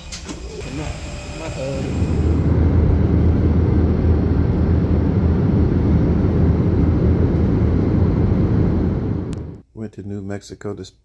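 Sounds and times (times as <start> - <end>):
airliner cabin engine drone: 0.0 - 9.6.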